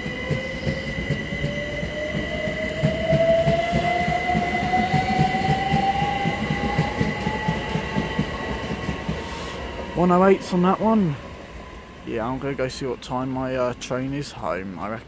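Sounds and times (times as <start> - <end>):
electric train motors whining: 0.0 - 12.4.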